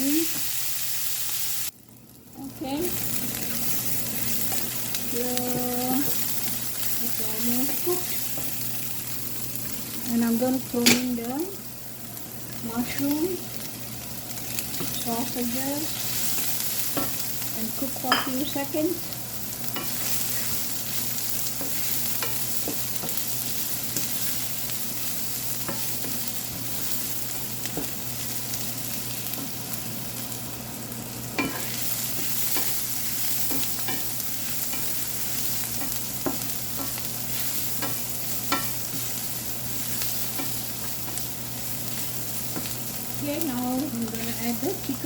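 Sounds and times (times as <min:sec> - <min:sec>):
food sizzling in oil: 0:00.0 - 0:45.0.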